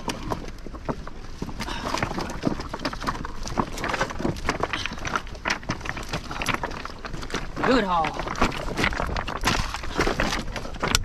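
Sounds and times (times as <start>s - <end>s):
footsteps on loose rocks: 0.0s - 11.0s
stones clattering underfoot: 0.0s - 11.0s.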